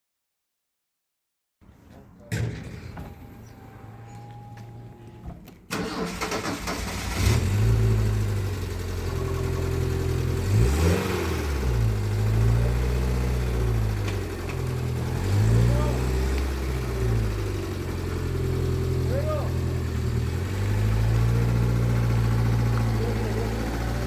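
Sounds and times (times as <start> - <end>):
engine running: 2.6 - 24.0.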